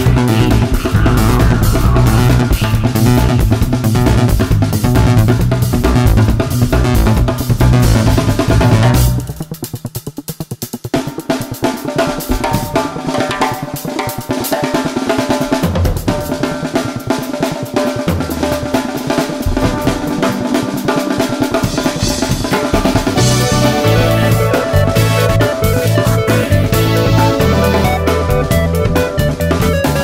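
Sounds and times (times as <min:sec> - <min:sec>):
rapid drum kit: 0:00.0 - 0:30.0.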